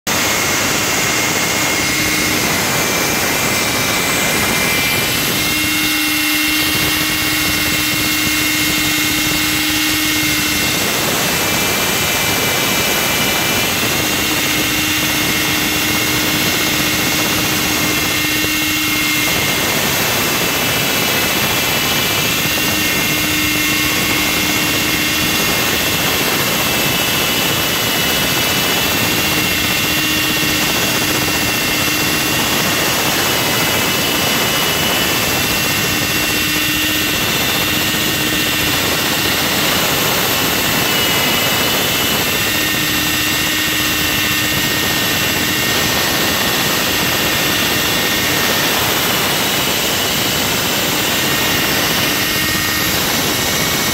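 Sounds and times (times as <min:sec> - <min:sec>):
wall saw cutting concrete: 0:00.0 - 0:53.9
low hum: 0:00.1 - 0:53.9.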